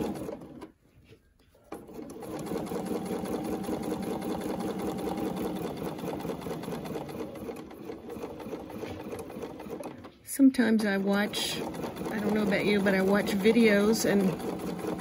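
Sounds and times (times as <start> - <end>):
sewing machine stitching: 0.0 - 0.8, 1.5 - 15.0.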